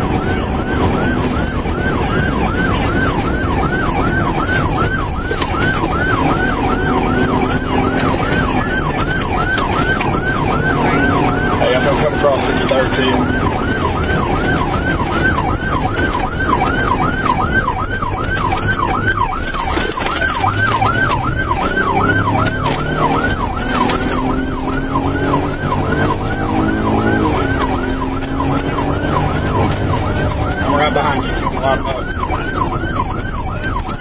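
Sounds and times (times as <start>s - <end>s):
car engine accelerating: 0.0s - 34.0s
police siren yelping: 0.0s - 34.0s
road noise: 0.0s - 34.0s.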